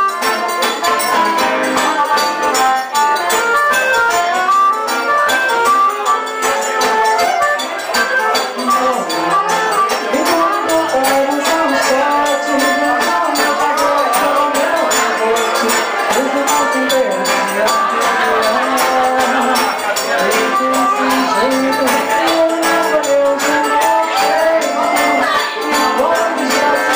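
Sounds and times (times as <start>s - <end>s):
accordion melody: 0.0s - 26.9s
jingling hand percussion: 0.0s - 26.9s
strummed acoustic guitar: 0.0s - 26.9s.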